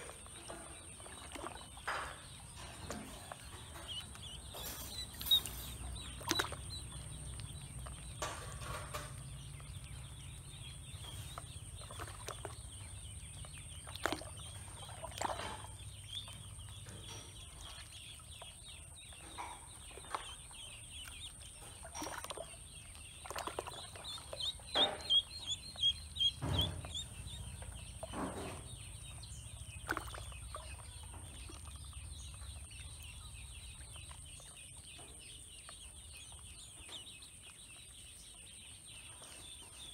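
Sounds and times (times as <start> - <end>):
ducklings peeping: 0.0 - 39.9
soft water splashes: 0.1 - 18.7, 19.7 - 34.8.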